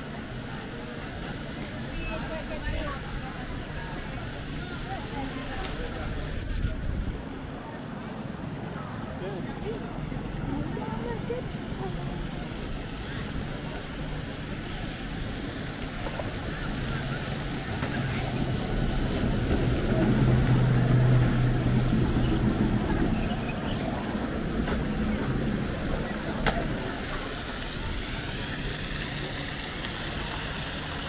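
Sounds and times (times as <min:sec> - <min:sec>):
people's voices: 0:00.0 - 0:31.0
street noise: 0:00.0 - 0:31.0
tram passing humming: 0:00.0 - 0:31.0.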